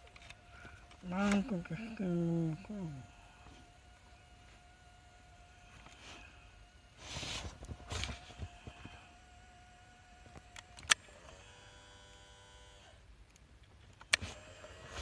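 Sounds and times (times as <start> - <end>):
tape motor whirring: 0.0 - 13.0, 14.0 - 15.0.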